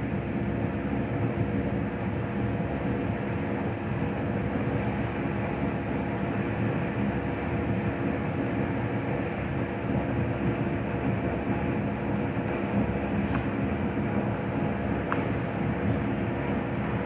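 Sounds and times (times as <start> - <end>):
faint constant hum: 0.0 - 17.0.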